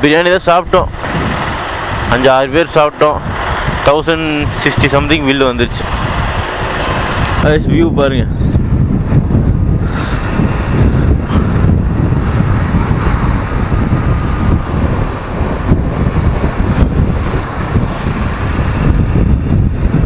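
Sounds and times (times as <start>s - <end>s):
road noise: 0.0s - 20.0s
wind rushing over microphone: 0.0s - 20.0s
motorcycle engine: 0.7s - 20.0s.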